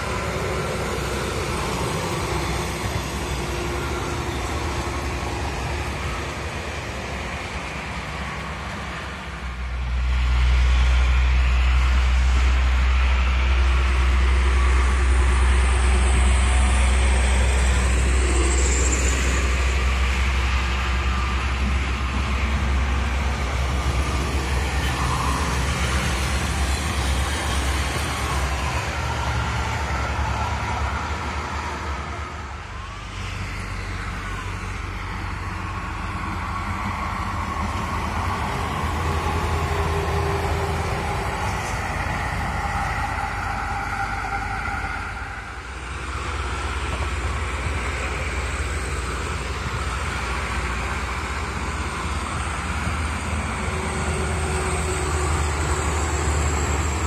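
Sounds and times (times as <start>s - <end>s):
motorway traffic passing: 0.0s - 57.0s.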